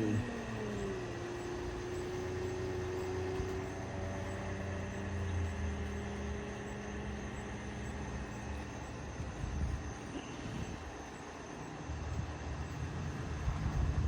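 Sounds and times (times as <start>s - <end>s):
held hum: 0.0s - 14.0s
low engine rumble: 0.0s - 14.0s.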